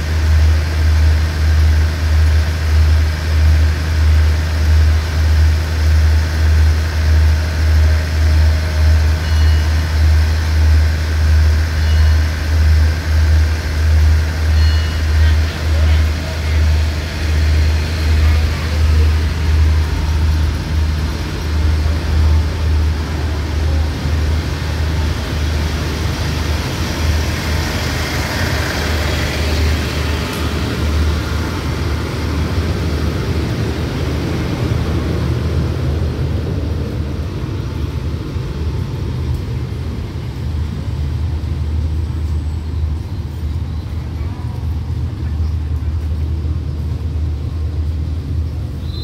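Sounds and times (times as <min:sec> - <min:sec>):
train wheels rumbling: 0:00.0 - 0:49.0.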